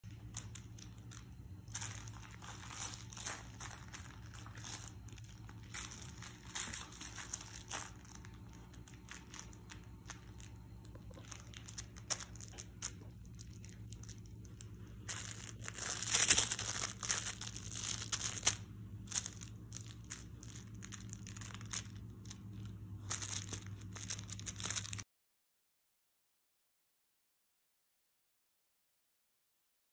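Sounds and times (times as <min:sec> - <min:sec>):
low hum: 0:00.0 - 0:25.0
puppy chewing plush toy: 0:00.0 - 0:25.0.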